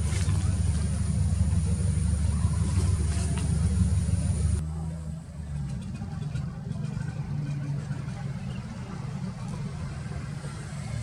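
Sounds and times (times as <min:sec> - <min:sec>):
large engine rumbling: 0:00.0 - 0:11.0.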